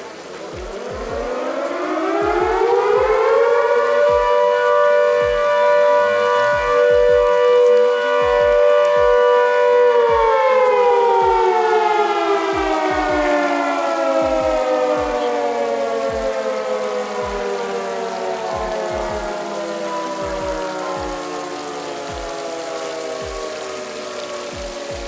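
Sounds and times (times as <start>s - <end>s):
town siren wailing: 0.0s - 25.0s.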